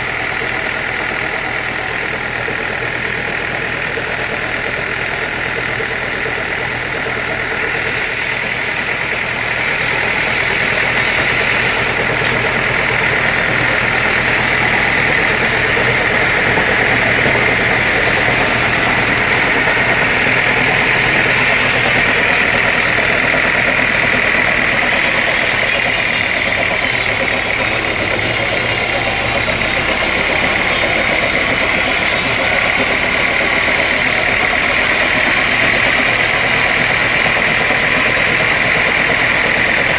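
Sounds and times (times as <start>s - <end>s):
low engine hum: 0.0s - 39.9s
saw whining: 7.2s - 39.9s.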